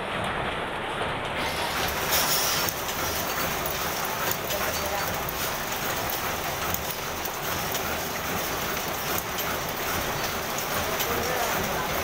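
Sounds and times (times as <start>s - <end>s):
weaving machine clatter: 1.4s - 12.0s.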